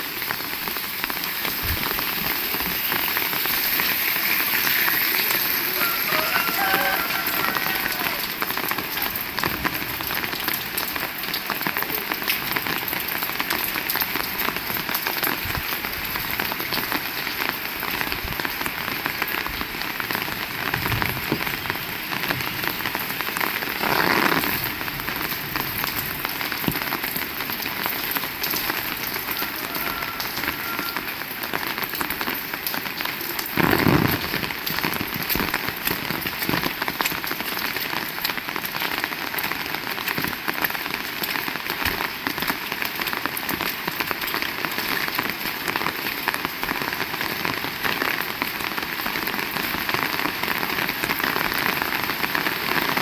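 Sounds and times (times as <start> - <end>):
heavy rain pattering: 0.0 - 53.0.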